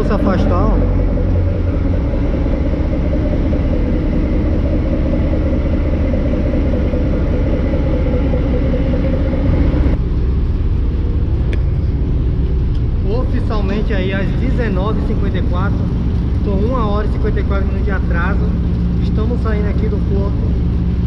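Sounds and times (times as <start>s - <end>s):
boat engine rumbling: 0.0s - 21.0s.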